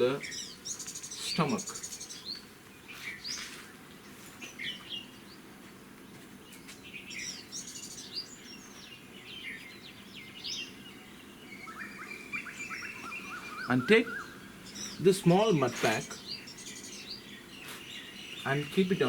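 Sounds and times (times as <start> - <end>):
faint background noise: 0.0 - 19.0
songbirds chirping: 0.0 - 19.0.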